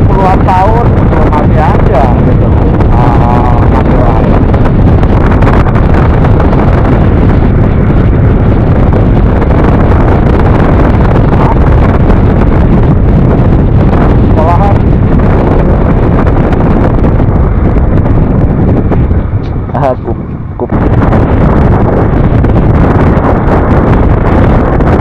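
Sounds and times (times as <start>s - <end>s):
road noise: 0.0s - 25.0s
wind noise on microphone: 0.0s - 25.0s.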